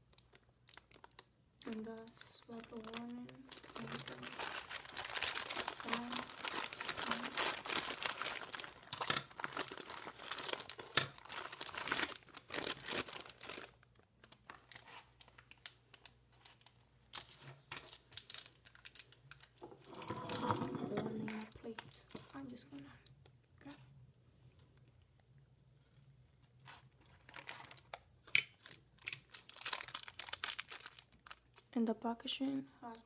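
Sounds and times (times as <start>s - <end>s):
plastic wrapper crinkling: 0.0s - 22.8s, 26.6s - 32.6s.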